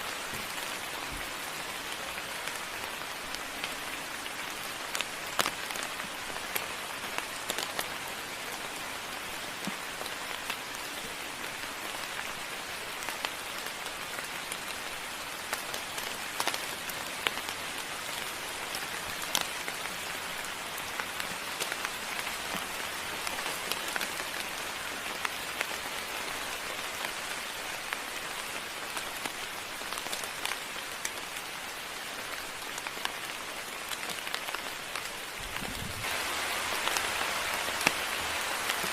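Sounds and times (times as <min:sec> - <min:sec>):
moderate rain falling: 0:00.0 - 0:38.9
raindrops clicking close by: 0:00.0 - 0:38.9.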